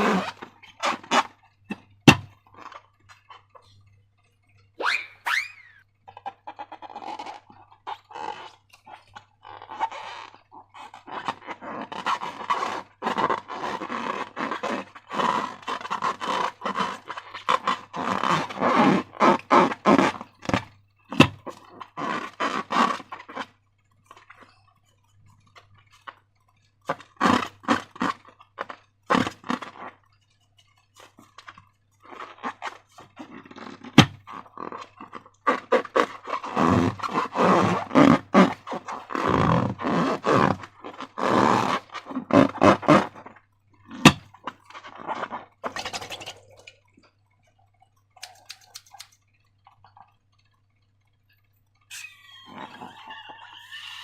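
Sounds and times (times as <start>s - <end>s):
slime squelching and crackling: 6.0s - 54.0s.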